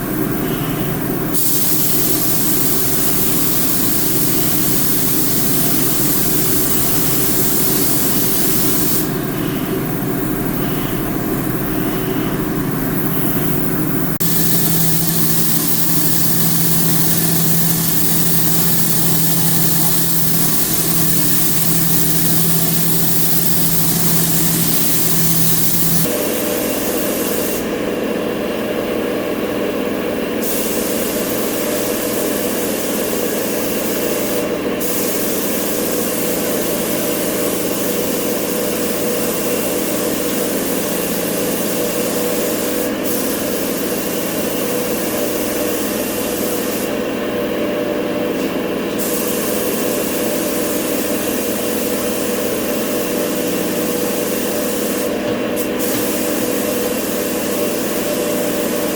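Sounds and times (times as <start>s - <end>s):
compressed-air tool hissing: 0.0s - 27.8s, 30.4s - 47.1s, 48.3s - 58.9s
steady machine hum: 0.0s - 58.9s.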